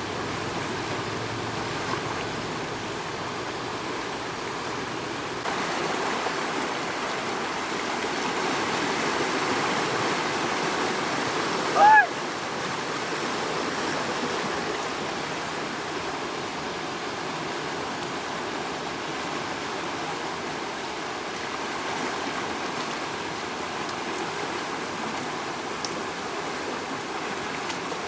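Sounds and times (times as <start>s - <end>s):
flowing floodwater rushing: 0.0s - 28.0s.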